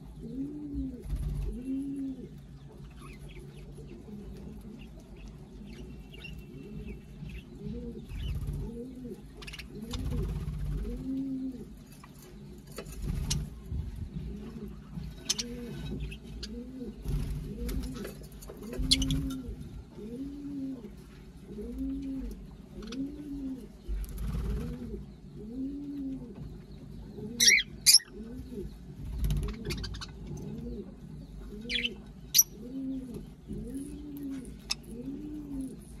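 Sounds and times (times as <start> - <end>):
doves cooing: 0.0 - 36.0.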